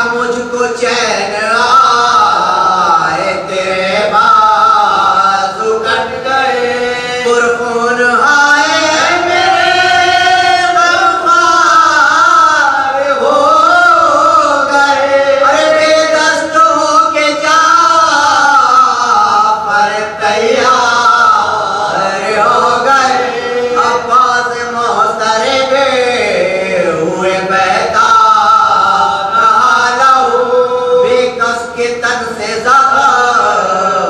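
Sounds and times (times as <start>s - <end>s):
man chanting a lament: 0.0s - 34.0s.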